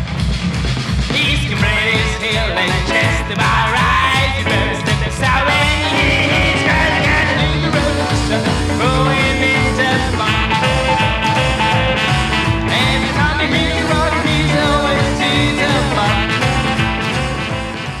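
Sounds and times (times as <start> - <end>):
rockabilly band music: 0.0 - 18.0.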